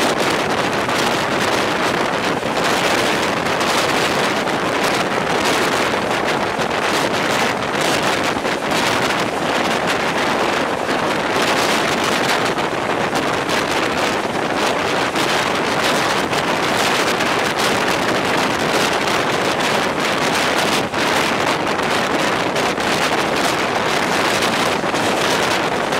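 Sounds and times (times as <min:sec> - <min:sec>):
passenger train rushing along track: 0:00.0 - 0:25.9
wind buffeting microphone: 0:00.0 - 0:25.9.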